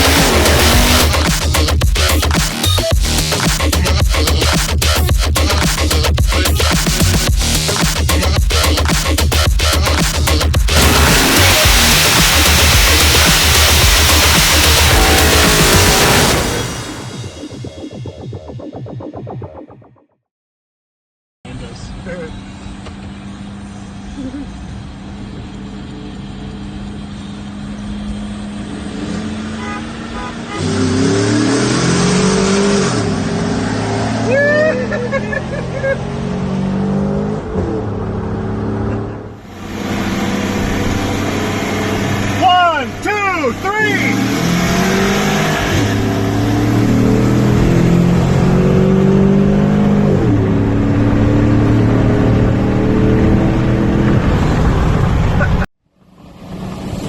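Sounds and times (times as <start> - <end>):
car engine idling and revving: 0.0 - 17.6, 21.5 - 57.0.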